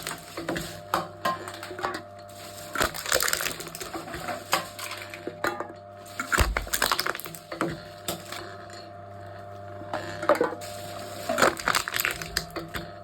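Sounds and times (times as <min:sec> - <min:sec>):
cans crunching in a crusher: 0:00.0 - 0:13.0
faint machine hum: 0:00.0 - 0:13.0.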